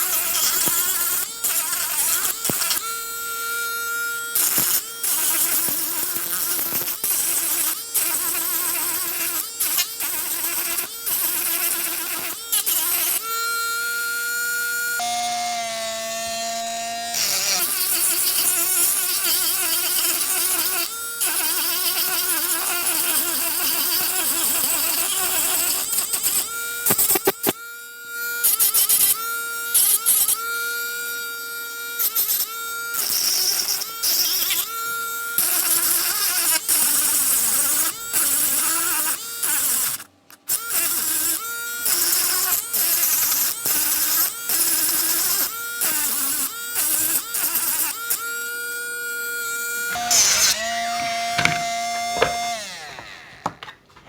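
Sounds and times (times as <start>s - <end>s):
sanding bit grinding filler: 0.0s - 39.9s, 40.5s - 53.8s
mini sanding machine whining: 0.0s - 54.0s.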